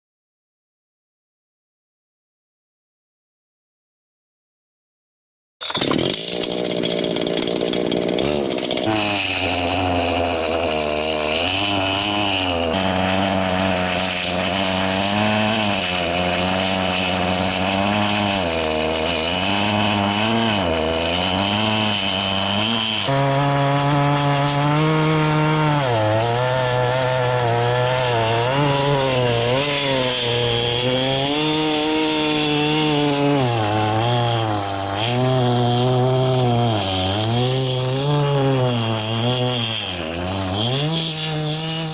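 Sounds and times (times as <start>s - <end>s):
chainsaw cutting log: 5.6s - 41.9s.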